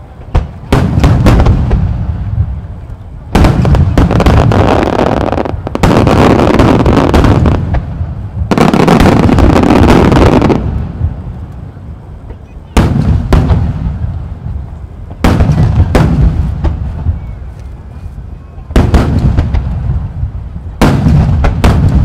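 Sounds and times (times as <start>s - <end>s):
firework crackle: 0.0s - 22.0s.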